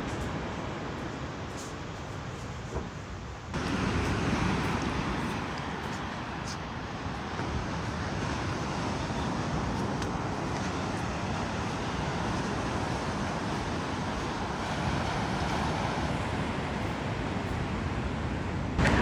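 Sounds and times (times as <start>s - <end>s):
small waves breaking on beach: 3.5s - 19.0s.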